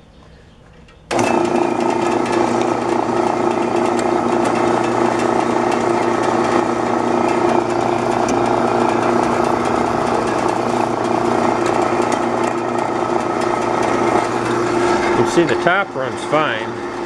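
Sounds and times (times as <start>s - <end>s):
bandsaw running: 1.1s - 17.0s.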